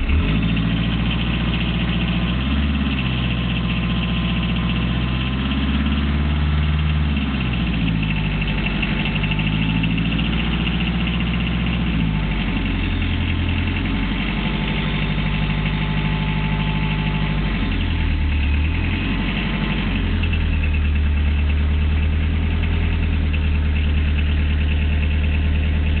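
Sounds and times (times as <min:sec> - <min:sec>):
diesel engine idling unevenly: 0:00.0 - 0:26.0.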